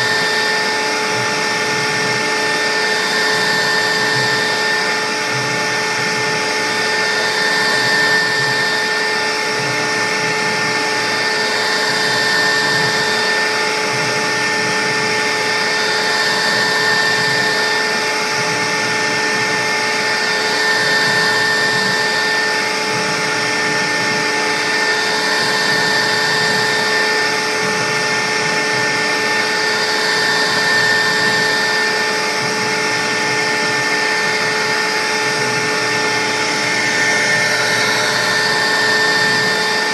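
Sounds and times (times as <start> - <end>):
cnc router spindle whining: 0.0 - 39.9.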